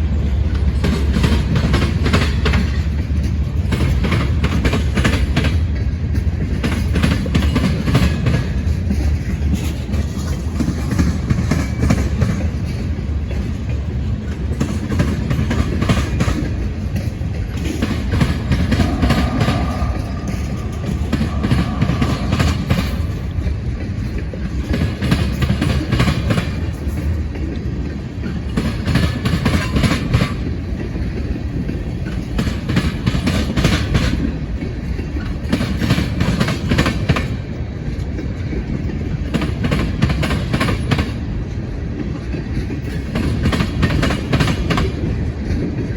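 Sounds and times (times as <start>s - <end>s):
freight train rumble: 0.0s - 45.9s.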